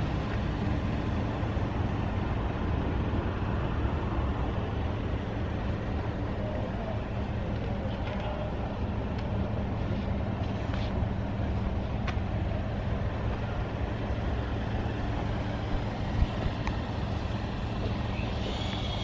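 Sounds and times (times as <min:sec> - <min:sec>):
van engine humming: 0:00.0 - 0:19.0.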